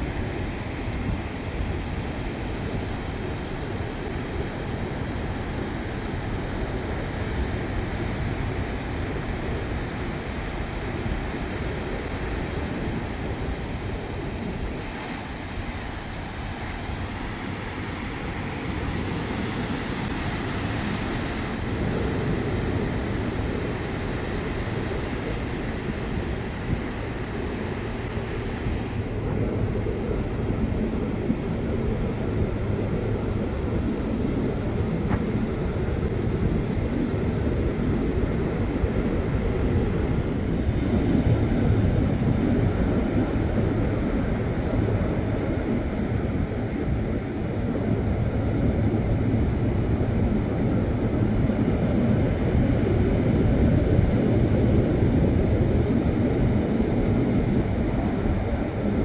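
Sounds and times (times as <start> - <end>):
surf breaking on beach: 0.0 - 59.0.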